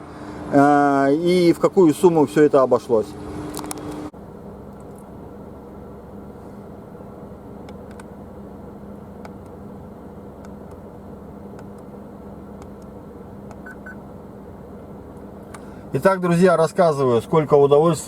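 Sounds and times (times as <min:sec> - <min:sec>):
car idling hum: 0:00.0 - 0:18.0.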